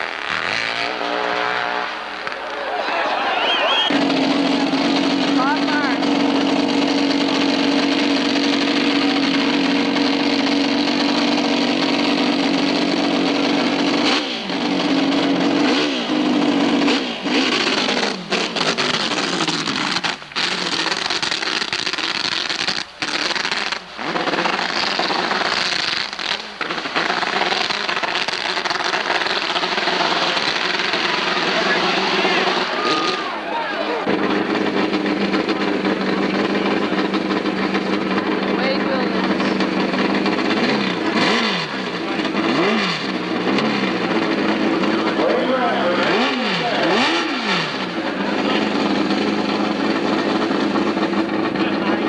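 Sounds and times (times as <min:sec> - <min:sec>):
motorcycle engine running hard: 0:00.0 - 0:52.0.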